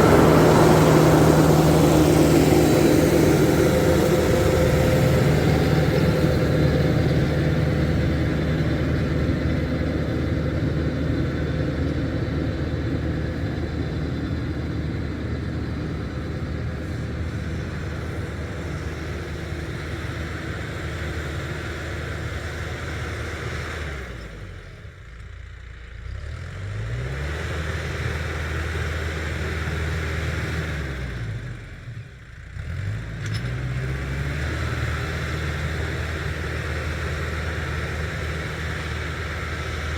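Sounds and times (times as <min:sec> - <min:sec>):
tractor engine running: 0:00.0 - 0:25.8, 0:33.2 - 0:39.9.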